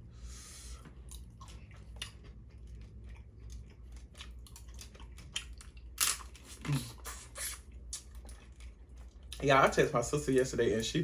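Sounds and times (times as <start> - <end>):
chewing and crunching crab: 0.8 - 9.7.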